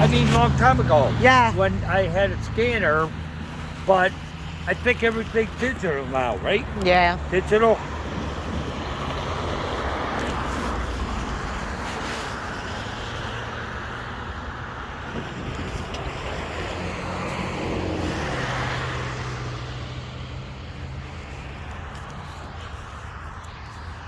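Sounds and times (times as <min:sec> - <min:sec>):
low engine hum: 0:00.0 - 0:24.0
road noise of passing vehicles: 0:00.0 - 0:24.0.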